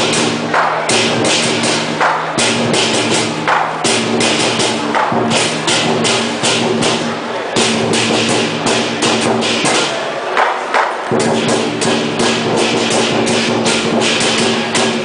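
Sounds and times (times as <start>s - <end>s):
cymbals crashing: 0.0s - 15.0s
drum beating: 0.0s - 15.0s.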